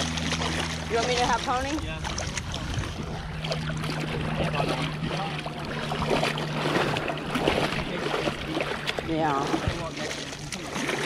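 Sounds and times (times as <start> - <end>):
steady low hum: 0.0 - 11.0
water sloshing and splashing: 0.0 - 11.0.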